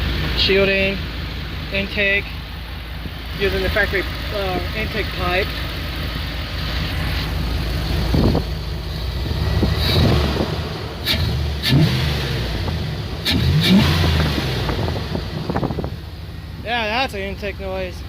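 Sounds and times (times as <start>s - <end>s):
pickup truck engine revving: 0.0s - 18.0s.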